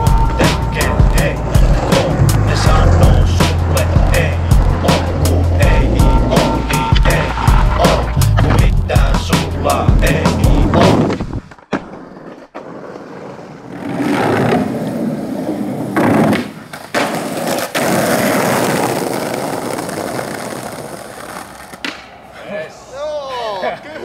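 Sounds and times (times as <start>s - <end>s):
skateboard wheels rolling: 0.0s - 22.6s.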